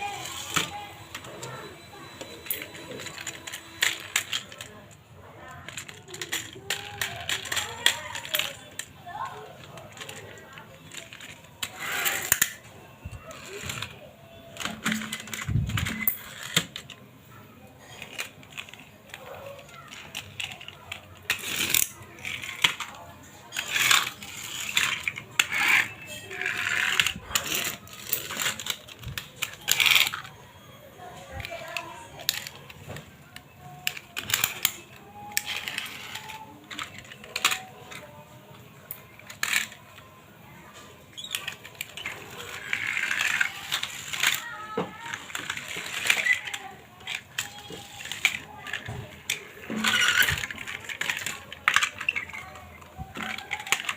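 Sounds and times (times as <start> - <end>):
toy cars clicking and clattering: 0.0 - 53.9.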